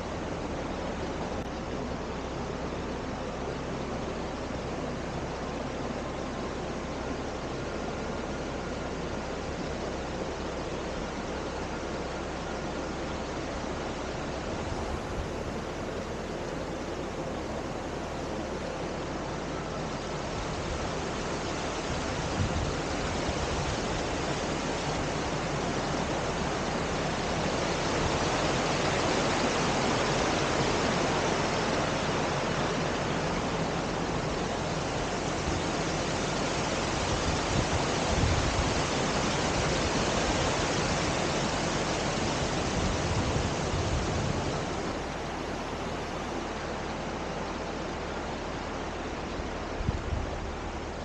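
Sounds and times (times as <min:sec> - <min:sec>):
creek water rushing over rocks: 0:00.0 - 0:51.0.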